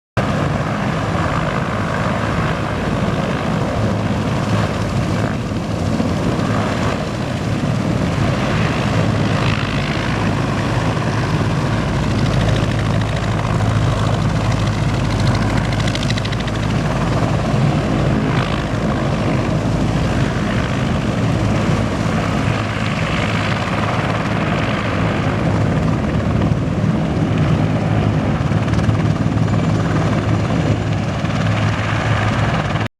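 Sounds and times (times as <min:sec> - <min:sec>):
helicopter engines and rotors: 0:00.2 - 0:32.9.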